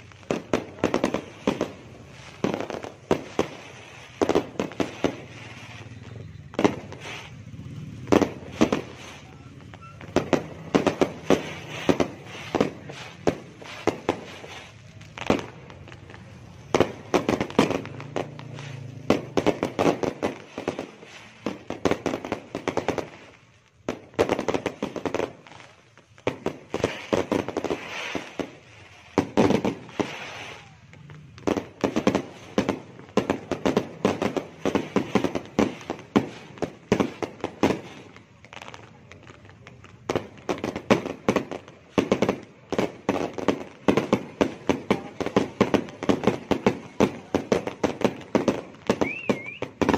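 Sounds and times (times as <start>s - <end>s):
firecrackers bangs and crackles: 0.0s - 49.9s.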